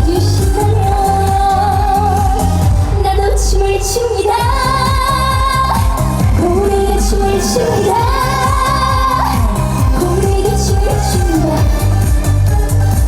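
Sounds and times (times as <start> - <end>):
woman singing: 0.0 - 12.8
backing track with steady beat: 0.0 - 13.0.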